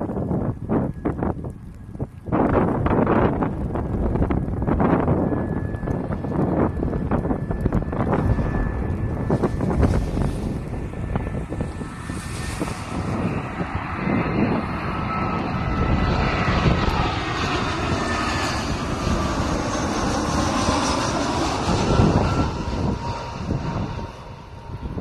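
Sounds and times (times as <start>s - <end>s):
jet airliner engines: 0.0s - 25.0s.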